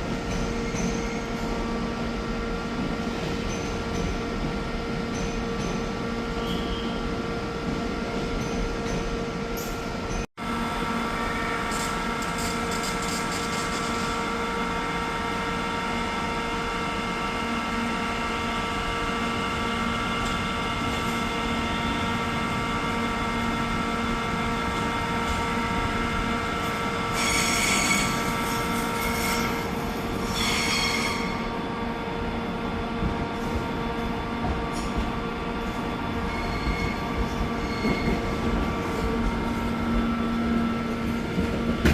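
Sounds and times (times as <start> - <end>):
train mechanical hum: 0.0 - 41.9.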